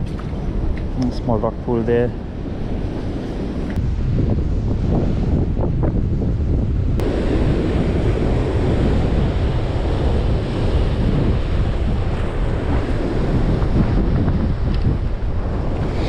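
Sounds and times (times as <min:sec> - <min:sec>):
rough surf: 0:00.0 - 0:16.0
wind buffeting microphone: 0:00.0 - 0:16.0.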